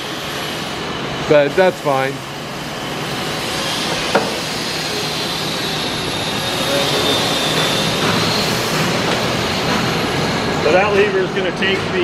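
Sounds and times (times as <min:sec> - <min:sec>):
lathe gear noise: 0:00.0 - 0:12.0.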